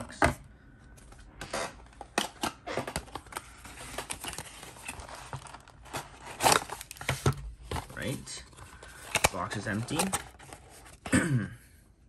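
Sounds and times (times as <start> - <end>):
cardboard and paper rustling: 1.0 - 11.1.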